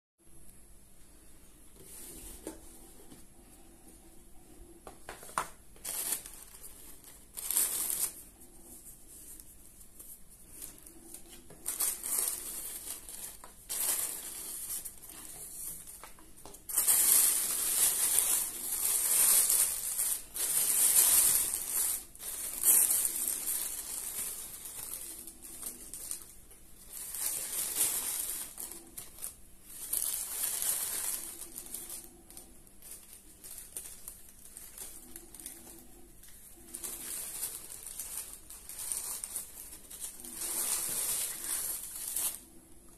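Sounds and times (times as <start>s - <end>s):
tissue paper rustling: 5.2s - 42.8s.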